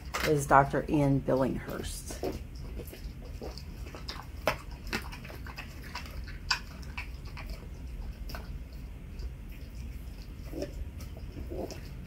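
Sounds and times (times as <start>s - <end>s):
dog gnawing wet bones: 0.0s - 12.0s.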